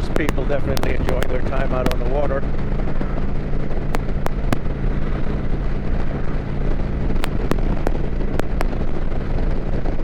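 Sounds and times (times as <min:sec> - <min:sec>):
motorcycle engine cruising: 0:00.0 - 0:10.0
rushing wind: 0:00.0 - 0:10.0.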